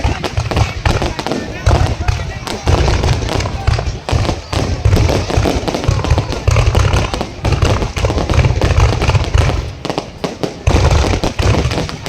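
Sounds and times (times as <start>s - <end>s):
deep booms: 0.0s - 12.0s
fireworks bangs and crackling: 0.0s - 12.0s.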